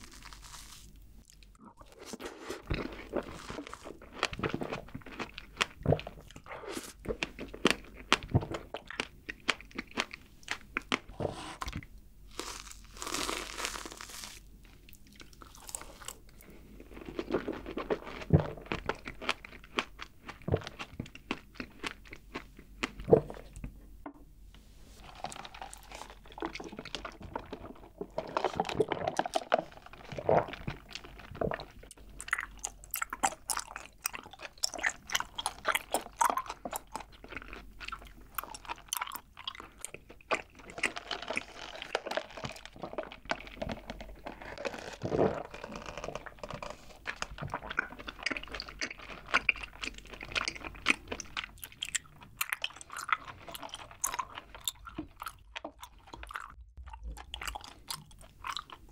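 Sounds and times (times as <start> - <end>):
close wet chewing: 0.0 - 23.7, 25.0 - 58.9.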